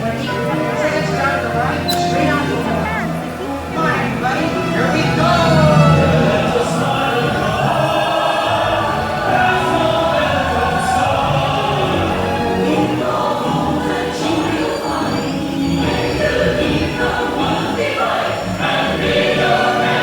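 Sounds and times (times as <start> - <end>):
choir singing: 0.0 - 20.0
orchestral music: 0.0 - 20.0.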